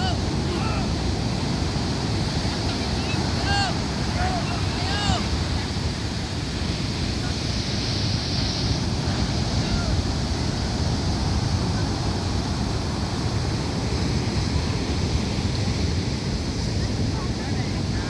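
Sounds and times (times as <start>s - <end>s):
ocean surf rushing: 0.0s - 18.0s
wind buffeting microphone: 0.0s - 18.0s.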